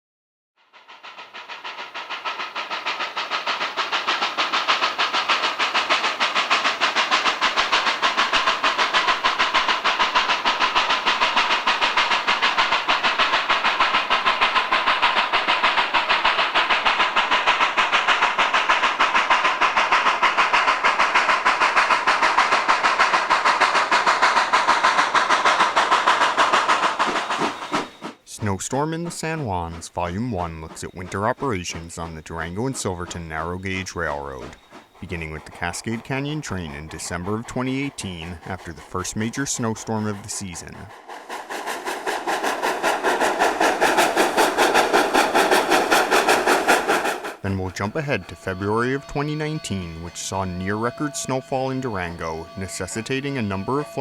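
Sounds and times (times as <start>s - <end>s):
steam hiss: 0.6s - 54.0s
steam locomotive chuffing: 0.6s - 54.0s.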